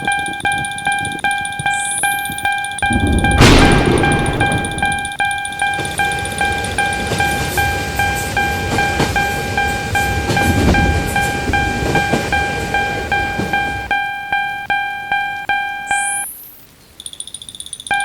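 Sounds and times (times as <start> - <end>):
railroad crossing bell clanging: 0.0 - 16.3
train passing: 0.1 - 15.3.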